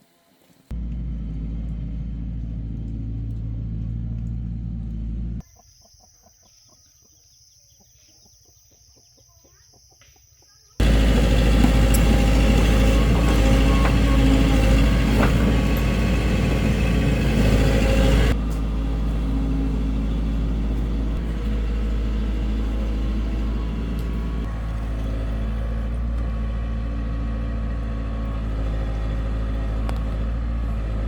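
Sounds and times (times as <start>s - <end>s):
heavy diesel engine running: 0.7s - 5.4s, 10.8s - 31.0s.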